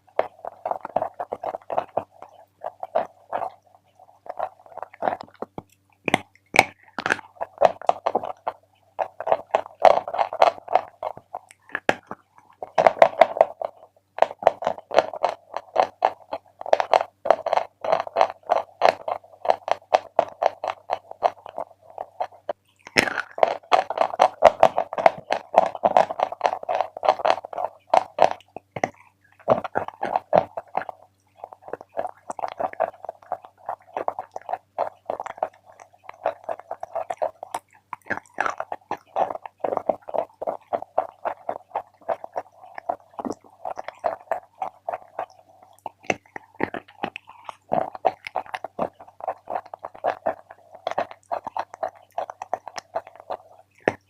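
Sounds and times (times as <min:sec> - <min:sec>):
chewing chalk crunching: 0:00.0 - 0:54.0.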